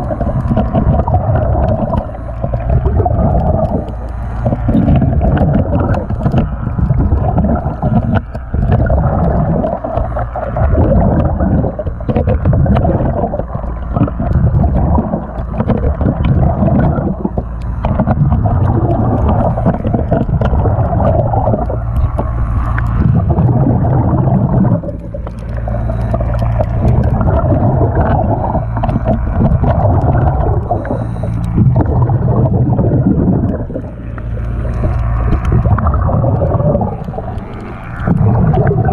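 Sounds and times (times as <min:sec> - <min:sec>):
low rumble of water: 0:00.0 - 0:38.9
scraper scraping underwater: 0:00.0 - 0:38.9.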